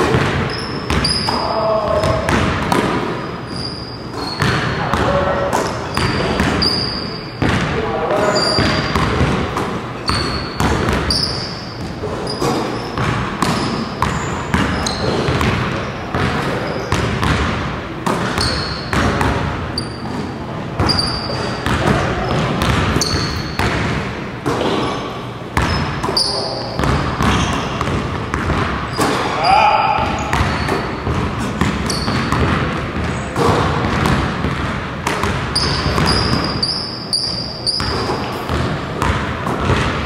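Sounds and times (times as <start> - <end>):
basketballs bouncing on hardwood: 0.0 - 3.6, 4.2 - 24.9, 25.5 - 36.8, 37.6 - 40.0
sneaker squeaks: 0.0 - 17.3, 18.1 - 23.8, 24.4 - 40.0.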